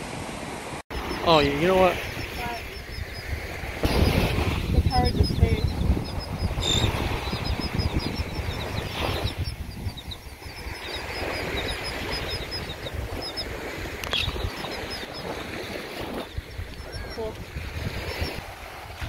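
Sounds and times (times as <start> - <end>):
surf washing: 0.0 - 19.0
terns calling: 0.9 - 18.4
wind buffeting microphone: 0.9 - 19.0.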